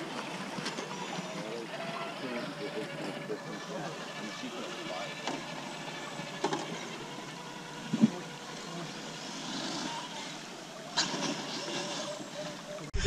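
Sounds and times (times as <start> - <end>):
electric motor whirring: 0.0 - 13.0.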